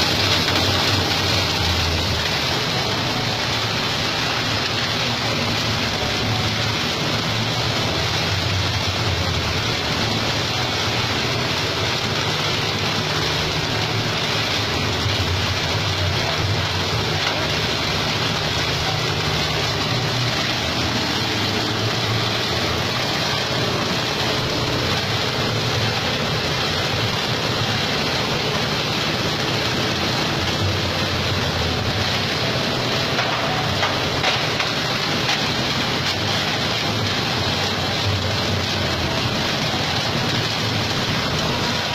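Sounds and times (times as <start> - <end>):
shredder engine running: 0.0 - 41.9.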